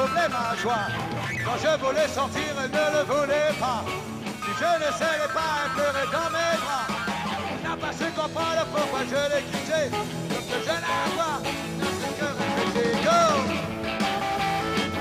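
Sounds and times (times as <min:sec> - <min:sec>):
man singing: 0:00.0 - 0:13.6
rock band playing: 0:00.0 - 0:15.0.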